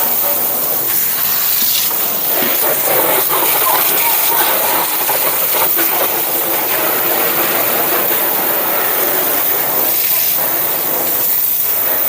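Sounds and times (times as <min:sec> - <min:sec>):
high-pressure water spray hissing: 0:00.0 - 0:12.0
pressure washer motor humming: 0:00.0 - 0:12.0.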